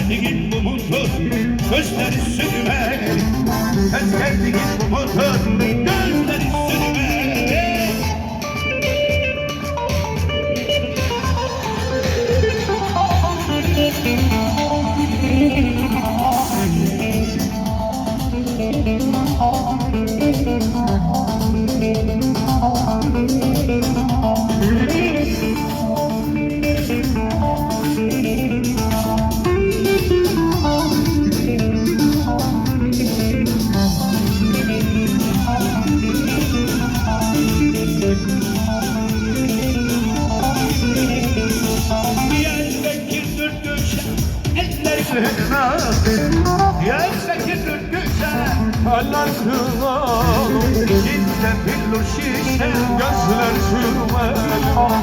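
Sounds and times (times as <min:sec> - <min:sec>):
amplified plucked-string melody: 0:00.0 - 0:45.0
folk-pop band music: 0:00.0 - 0:55.0.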